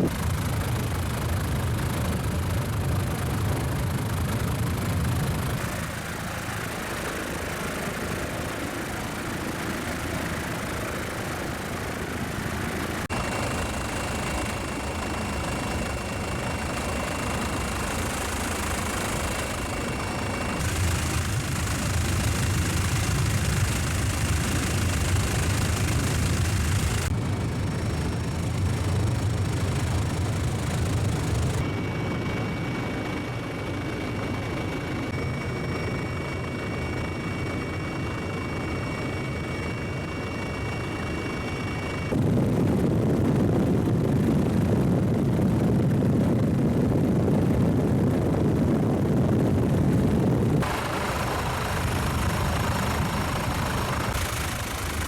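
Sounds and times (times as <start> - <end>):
helicopter engine and rotor drone: 0.0 - 55.0
high turbine whine: 0.0 - 55.0.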